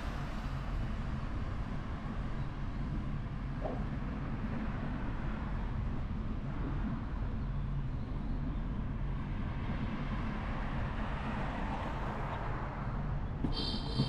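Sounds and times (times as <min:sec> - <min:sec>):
vehicle rumbling in motion: 0:00.0 - 0:14.0.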